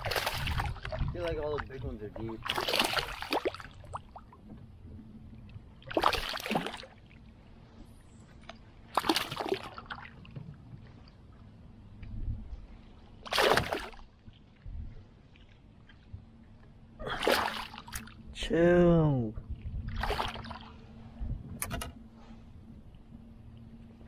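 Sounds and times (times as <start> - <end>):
water splashing around boat: 0.0 - 18.4, 19.2 - 24.0.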